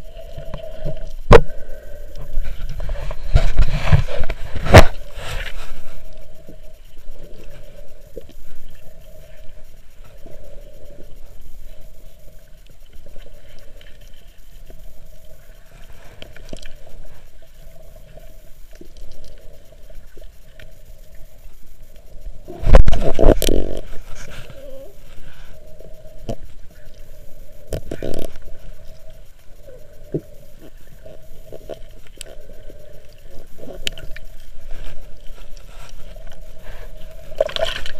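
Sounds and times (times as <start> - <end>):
steady low hum: 0.0 - 37.9
underwater water movement: 0.0 - 37.9.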